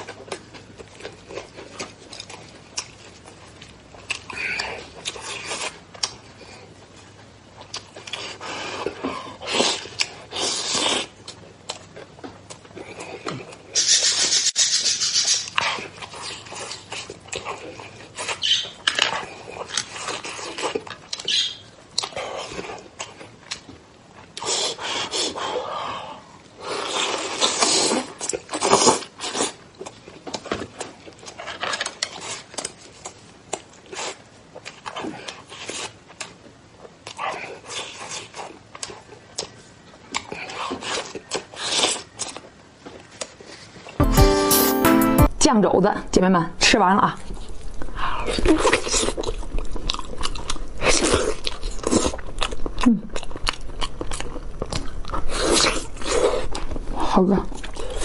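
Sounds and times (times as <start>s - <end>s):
man chewing and lip-smacking: 0.0s - 45.0s, 47.3s - 58.0s.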